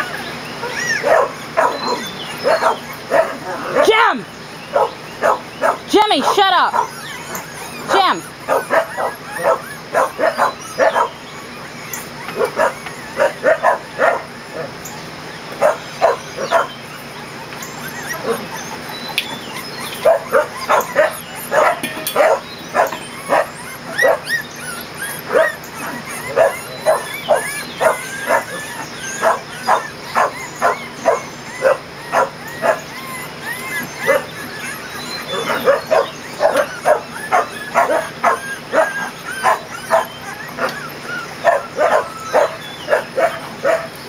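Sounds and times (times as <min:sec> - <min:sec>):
puppies yipping: 0:00.0 - 0:44.0.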